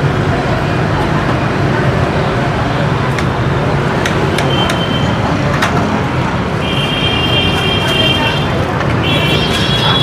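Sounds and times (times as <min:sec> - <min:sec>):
busy road traffic: 0:00.0 - 0:10.0.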